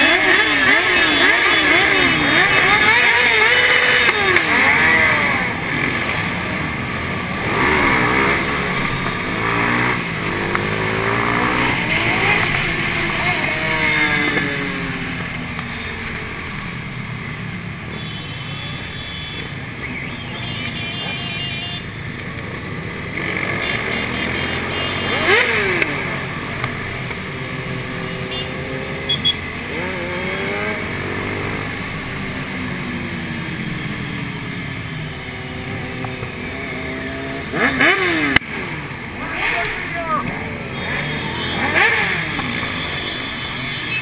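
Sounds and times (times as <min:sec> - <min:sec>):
motorcycle engines revving: 0:00.0 - 0:44.0
road noise: 0:00.0 - 0:44.0.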